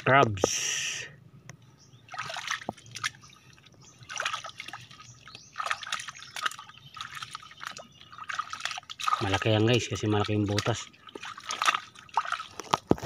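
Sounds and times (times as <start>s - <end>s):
mud squelching and splashing: 2.1s - 13.0s.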